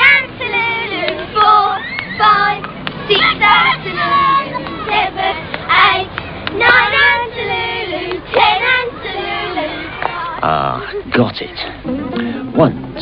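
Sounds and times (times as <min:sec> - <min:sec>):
girls chanting a rhyme: 0:00.0 - 0:10.4.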